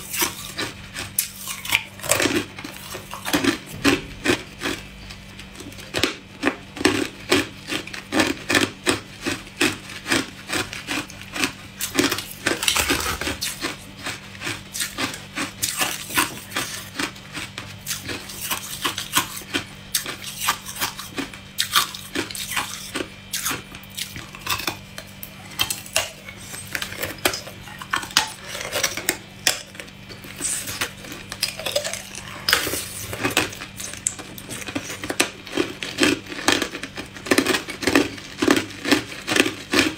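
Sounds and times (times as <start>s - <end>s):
teeth crunching ice: 0.0s - 39.9s.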